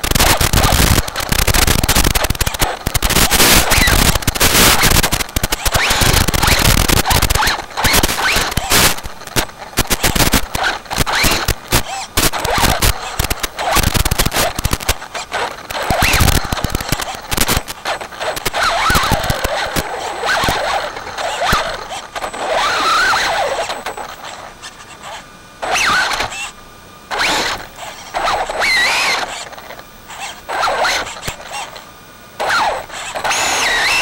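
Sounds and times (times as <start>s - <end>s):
rc car motor whine: 0.0s - 9.0s, 9.8s - 34.0s.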